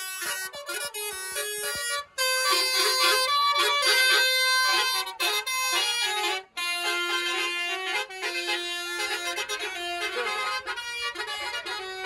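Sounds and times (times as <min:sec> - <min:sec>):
musical air horn playing tune: 0:00.0 - 0:12.0.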